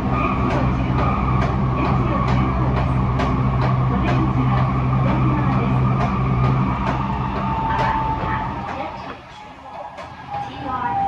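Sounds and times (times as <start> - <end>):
train hum and rolling noise: 0.0 - 11.0.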